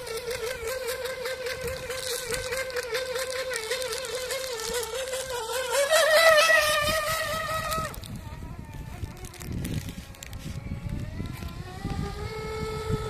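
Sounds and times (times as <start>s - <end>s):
electric motor boat whine: 0.0s - 13.0s.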